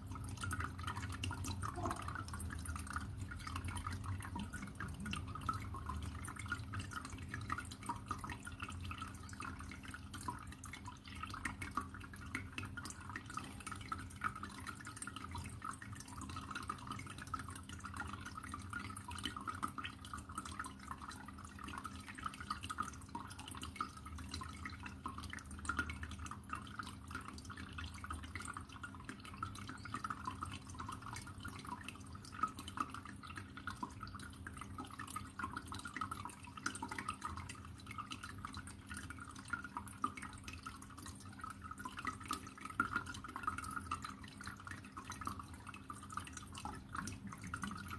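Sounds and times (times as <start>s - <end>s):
low steady hum: 0.0s - 47.9s
water trickling and splashing: 0.0s - 47.9s.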